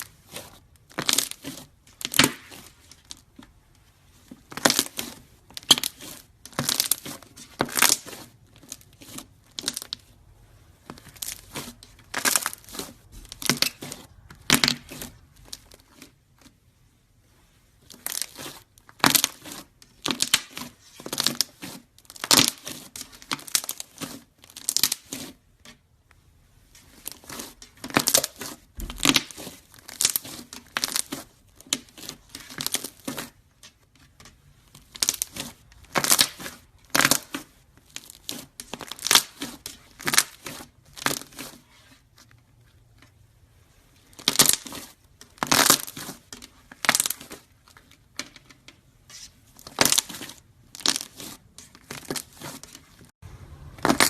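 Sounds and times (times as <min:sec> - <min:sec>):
material crackling and crunching: 0:00.0 - 0:54.0.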